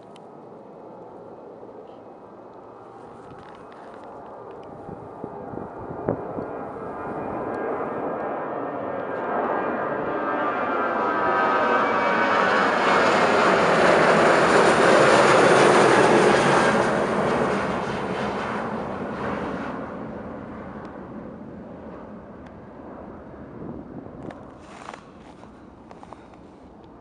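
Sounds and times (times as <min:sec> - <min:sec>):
jet engines roaring at takeoff: 0:00.1 - 0:27.0.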